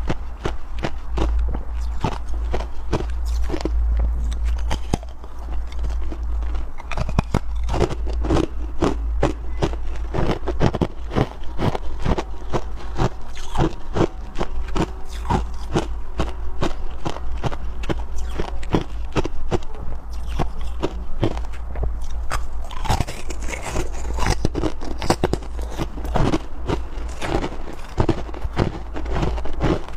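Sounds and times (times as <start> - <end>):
frost being chewed: 0.0 - 29.9
low hum: 0.0 - 29.9.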